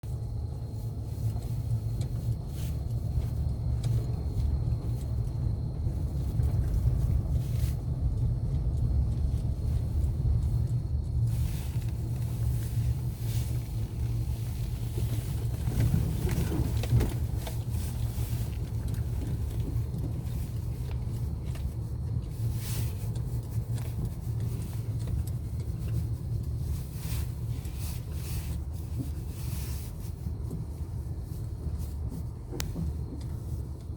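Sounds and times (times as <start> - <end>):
car road rumble: 0.0 - 33.9.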